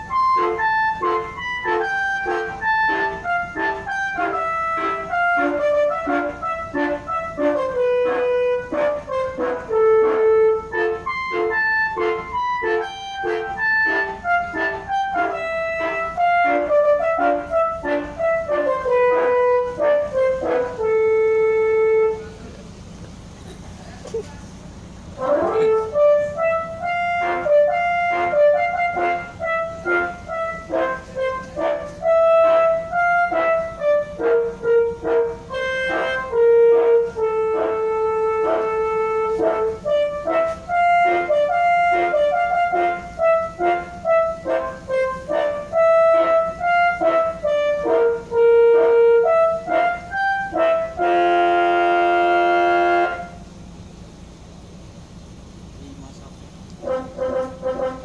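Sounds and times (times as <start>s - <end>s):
multi-trumpet air horn tune: 0.0s - 23.4s, 24.4s - 53.6s, 56.8s - 58.0s
low steady rumble: 0.0s - 58.0s.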